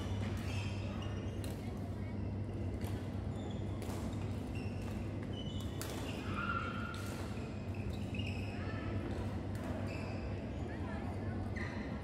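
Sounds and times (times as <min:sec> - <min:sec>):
sports hall hum: 0:00.0 - 0:12.0.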